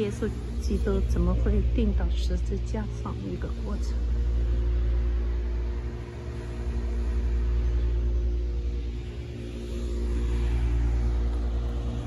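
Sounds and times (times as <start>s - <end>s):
low steady rumble: 0.0s - 12.0s
steady hum: 0.0s - 12.0s.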